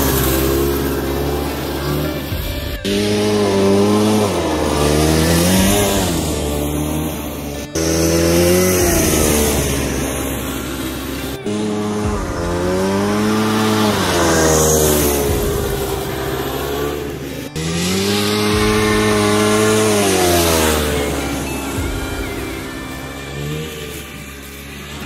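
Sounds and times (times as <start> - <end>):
racing engine at high revs: 0.0 - 25.0.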